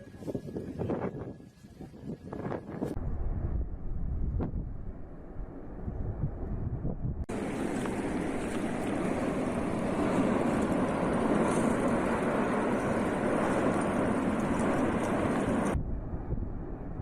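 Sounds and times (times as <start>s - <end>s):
dull faint rumble: 0.0s - 17.0s
volcano eruption roar: 3.0s - 17.0s.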